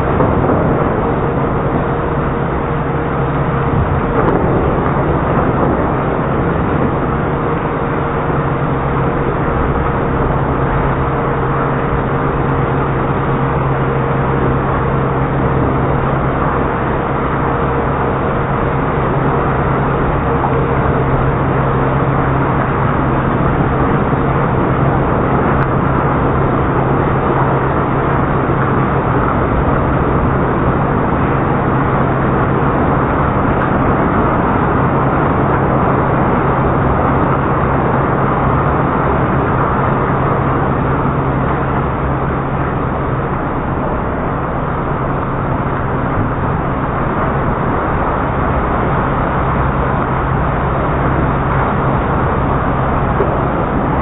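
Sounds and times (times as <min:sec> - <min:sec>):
car wash machinery running: 0:00.0 - 0:54.0.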